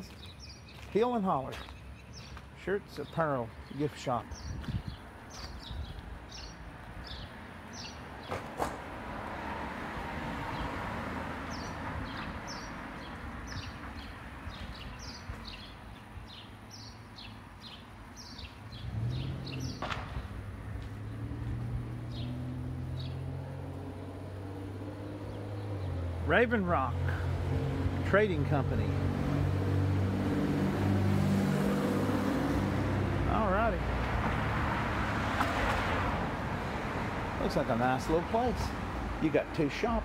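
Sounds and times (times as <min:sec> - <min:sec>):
traffic noise: 0:00.0 - 0:40.0.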